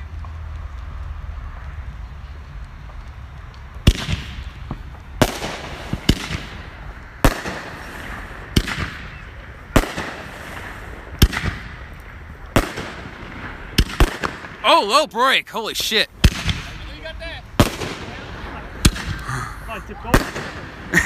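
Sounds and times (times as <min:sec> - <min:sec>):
firework bangs with hissing tails: 0:00.0 - 0:21.0.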